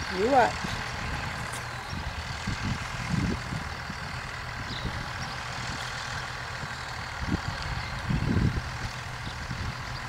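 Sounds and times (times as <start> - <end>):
tractor diesel engine rumbling: 0.0 - 10.0.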